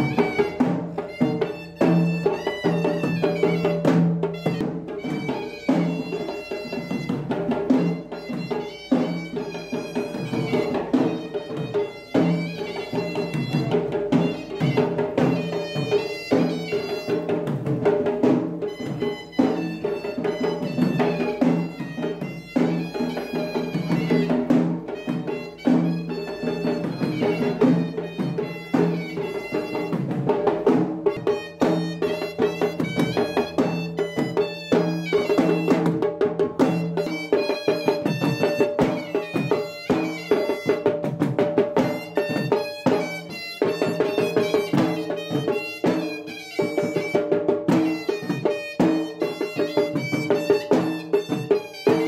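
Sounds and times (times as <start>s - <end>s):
steady drum beat: 0.0s - 52.0s.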